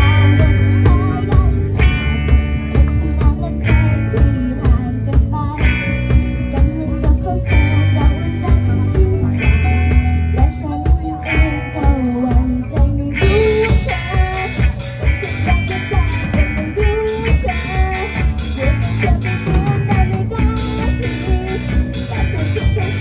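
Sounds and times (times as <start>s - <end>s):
drums and cymbals: 0.0s - 23.0s
live rock band: 0.0s - 23.0s
woman singing: 0.0s - 23.0s.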